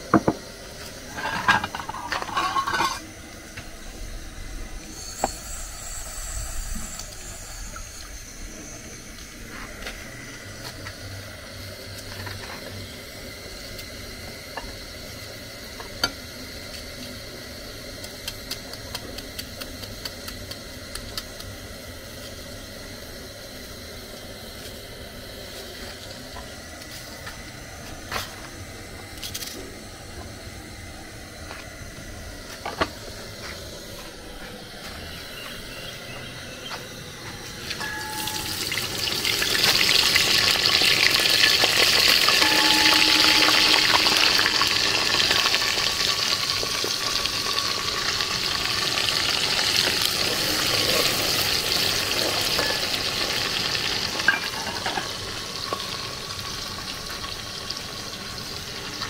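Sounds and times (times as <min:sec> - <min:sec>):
food frying in hot oil: 0:00.0 - 0:31.8, 0:34.6 - 0:59.0.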